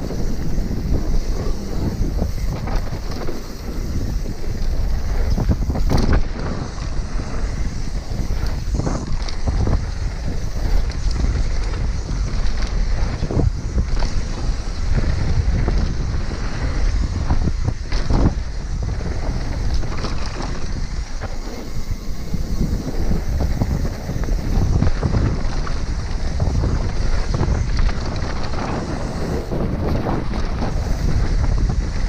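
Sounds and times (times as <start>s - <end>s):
bike knocks and rattles: 0.0s - 32.0s
tyres rolling on dry dirt: 0.0s - 32.0s
wind on microphone: 0.0s - 32.0s.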